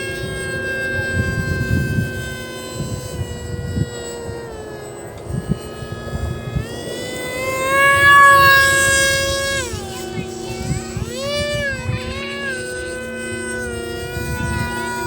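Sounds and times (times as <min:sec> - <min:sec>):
motor spinning propeller whine: 0:00.0 - 0:15.0.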